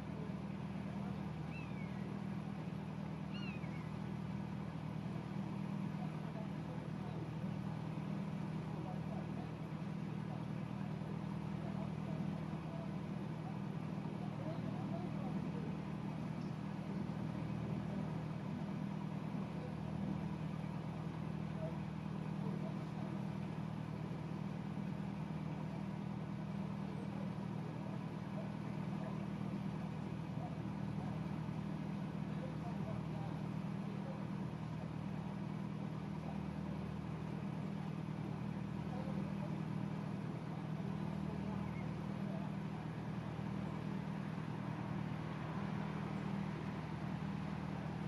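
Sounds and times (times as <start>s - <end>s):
boat engine humming: 0.0s - 48.0s.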